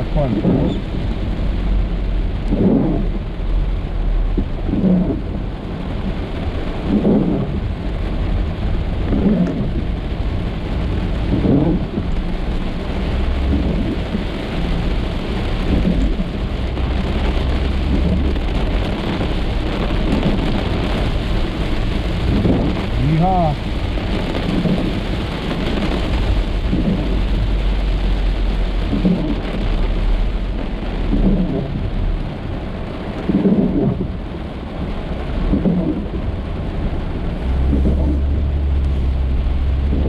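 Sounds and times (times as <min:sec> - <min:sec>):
heavy rain drumming on car roof: 0:00.0 - 0:40.0
low rumble: 0:00.0 - 0:40.0
windshield wipers sweeping: 0:00.0 - 0:40.0.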